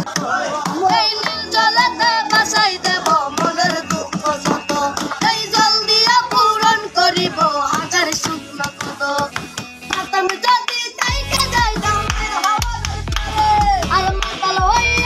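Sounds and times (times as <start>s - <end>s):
boy singing in high voice: 0.0s - 15.0s
hand-struck percussion beat: 0.0s - 15.0s.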